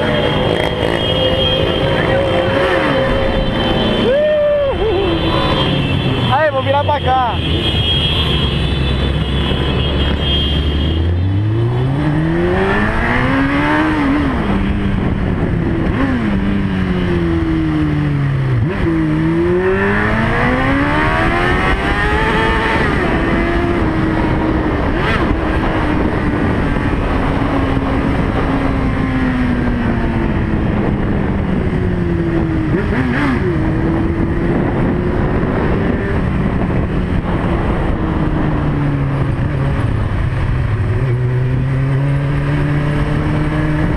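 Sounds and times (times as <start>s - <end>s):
motorcycle engine accelerating: 0.0s - 4.1s, 10.8s - 43.9s.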